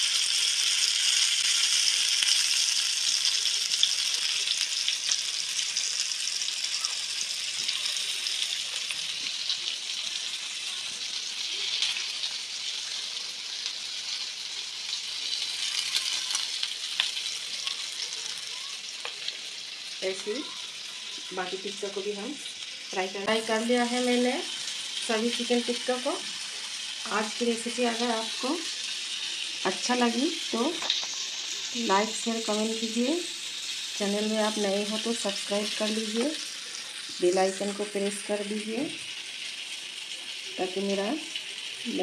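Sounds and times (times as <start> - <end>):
meat sizzling in a frying pan: 0.0 - 42.0.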